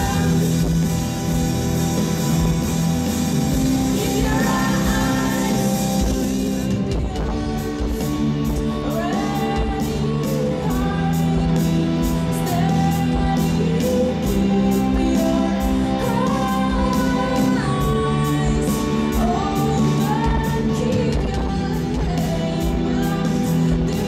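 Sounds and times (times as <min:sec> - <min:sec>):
female singer: 0:00.0 - 0:00.8, 0:03.7 - 0:24.0
rock band playing: 0:00.0 - 0:24.0.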